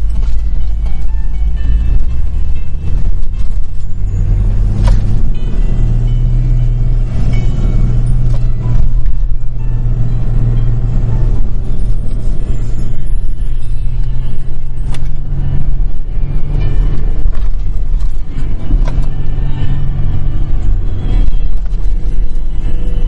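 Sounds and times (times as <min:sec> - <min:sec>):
car engine drone: 0:00.0 - 0:23.0
music playing: 0:00.0 - 0:23.0.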